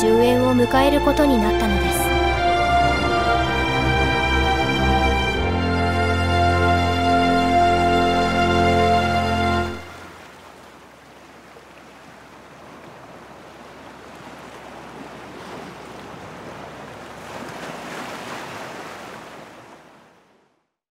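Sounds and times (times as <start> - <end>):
sea waves washing: 0.0 - 20.5.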